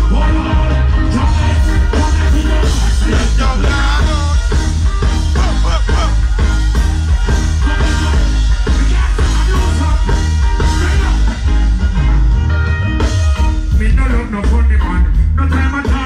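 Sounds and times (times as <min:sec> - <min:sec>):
man singing: 0:00.0 - 0:06.6, 0:07.2 - 0:11.8, 0:13.6 - 0:16.0
reggae band playing: 0:00.0 - 0:16.0.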